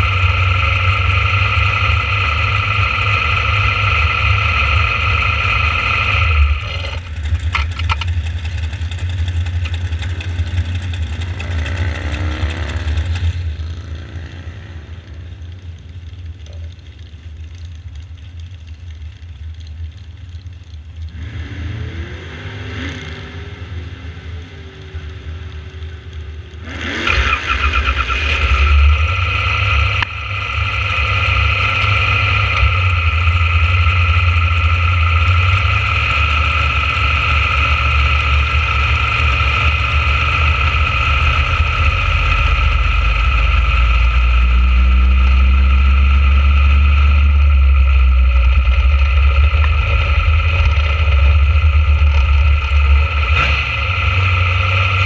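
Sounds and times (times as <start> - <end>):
high engine whine: 0.0 - 55.0
small engine rumbling: 0.0 - 55.0.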